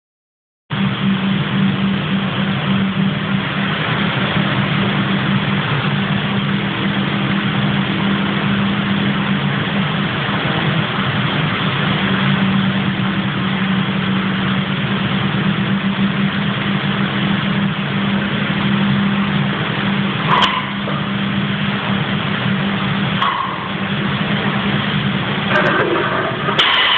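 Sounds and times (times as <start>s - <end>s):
loud machine drone: 0.7s - 26.9s.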